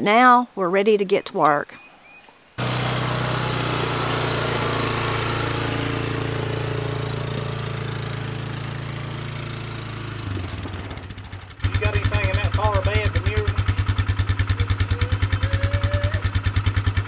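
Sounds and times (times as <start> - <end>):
atv engine running: 2.6 - 17.0.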